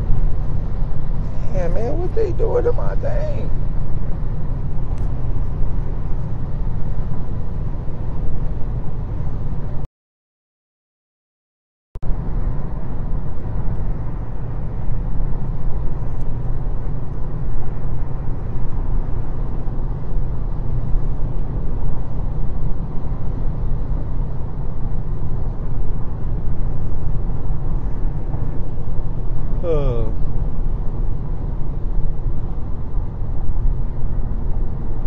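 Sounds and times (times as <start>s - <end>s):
steady low rumbling noise: 0.0s - 9.8s, 12.0s - 35.0s.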